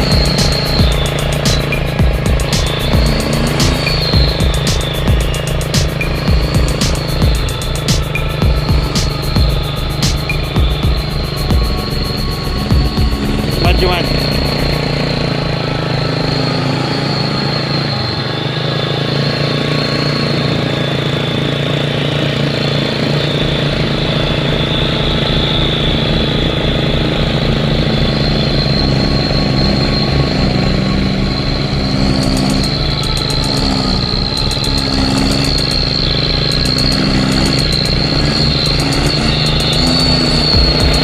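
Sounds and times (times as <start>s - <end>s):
high-pitched whine: 0.0s - 41.0s
truck engine rumbling: 0.0s - 41.0s.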